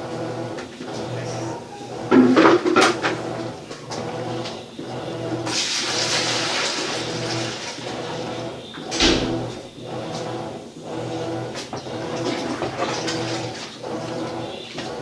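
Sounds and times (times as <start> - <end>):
washing machine motor hum: 0.0 - 15.0
water sloshing in tub: 0.8 - 15.0.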